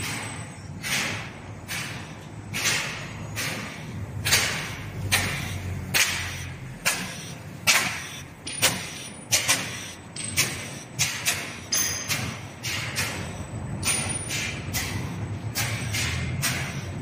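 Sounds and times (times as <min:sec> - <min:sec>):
die-cutting machine clack and hiss: 0:00.0 - 0:17.0.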